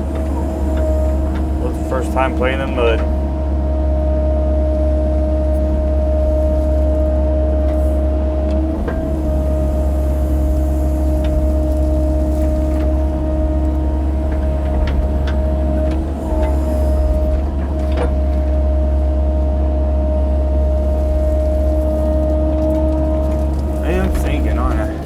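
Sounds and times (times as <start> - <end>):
excavator engine running: 0.0 - 25.0.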